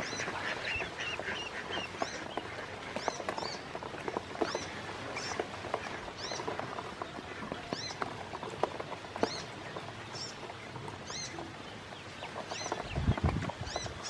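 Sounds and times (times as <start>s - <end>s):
bills pecking in plastic basin: 0.0s - 14.0s
ducklings peeping: 0.0s - 14.0s.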